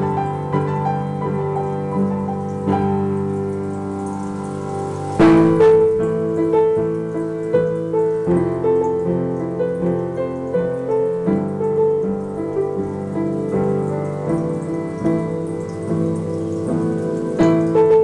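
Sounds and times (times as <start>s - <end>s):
upright piano playing: 0.0s - 18.0s.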